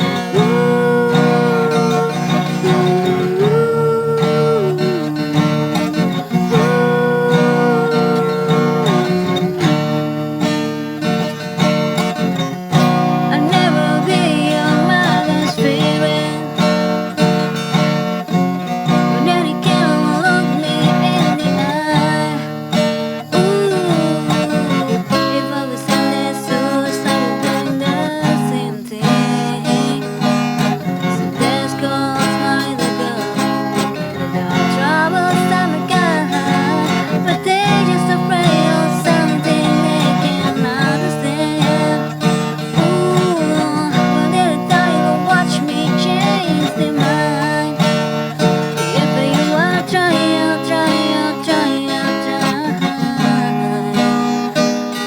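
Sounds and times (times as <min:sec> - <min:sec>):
acoustic guitar strumming chords: 0:00.0 - 0:55.0
guitar melody line: 0:00.0 - 0:55.0.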